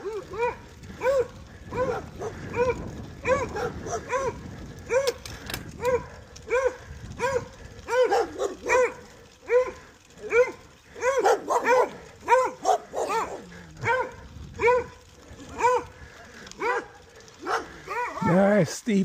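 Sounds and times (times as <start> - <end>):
dog barking: 0.0 - 5.2, 5.8 - 16.0, 16.6 - 18.3.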